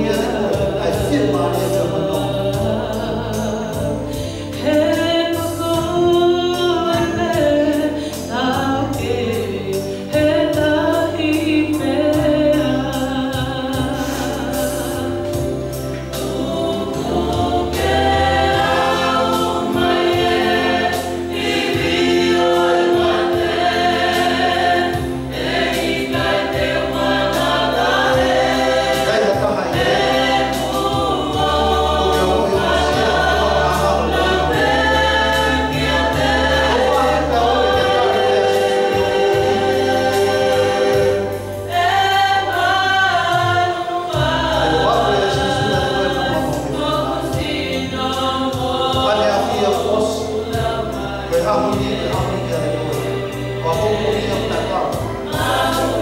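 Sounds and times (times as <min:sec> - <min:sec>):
group singing a hymn in harmony: 0:00.0 - 0:56.0.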